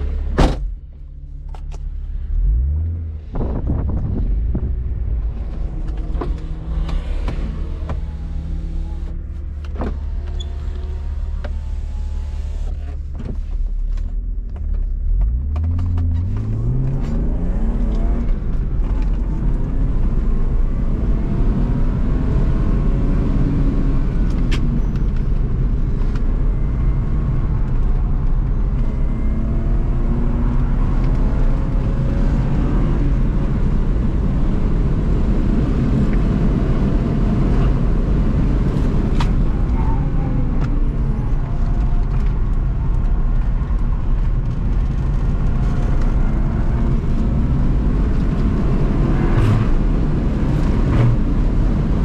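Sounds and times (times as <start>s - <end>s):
car engine idling and revving: 0.0s - 52.0s
tyre and road noise: 0.0s - 52.0s.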